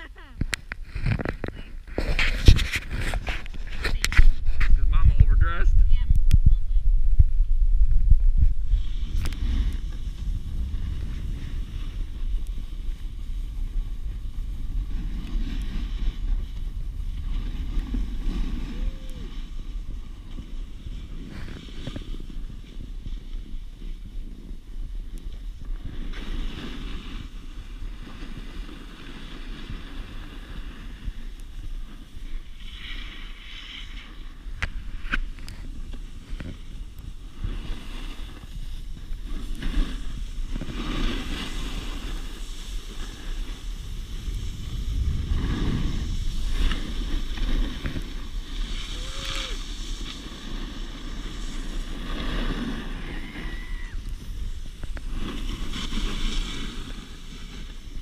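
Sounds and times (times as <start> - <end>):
snowboards scraping over snow: 0.0 - 5.8, 6.5 - 58.0
wind buffeting microphone: 0.0 - 32.6, 33.3 - 58.0.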